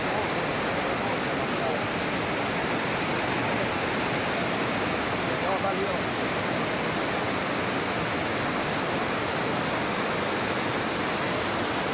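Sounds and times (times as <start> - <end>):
falling water rushing: 0.0 - 11.9.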